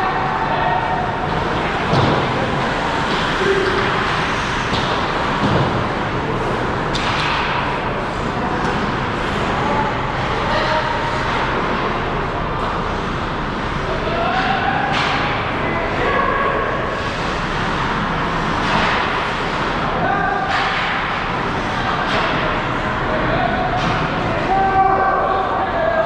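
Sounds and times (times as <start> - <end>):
hockey sticks and puck clacking: 0.0 - 26.0
players shouting: 0.0 - 26.0.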